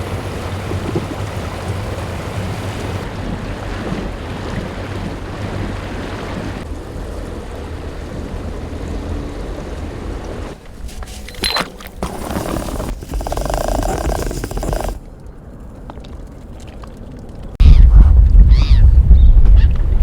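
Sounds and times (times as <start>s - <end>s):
wind buffeting microphone: 0.0s - 15.4s, 17.6s - 20.0s
water rushing along boat hull: 0.0s - 17.6s.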